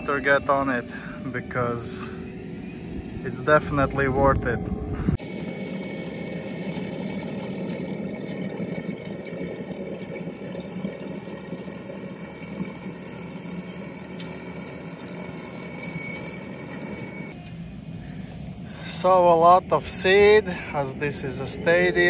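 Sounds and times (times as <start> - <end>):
diesel engine running: 0.0 - 22.0
steady whine: 0.0 - 22.0.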